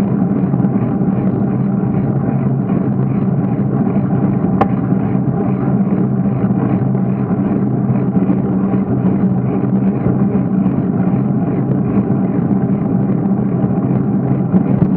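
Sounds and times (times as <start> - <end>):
wind and tyre rumble: 0.0 - 14.9.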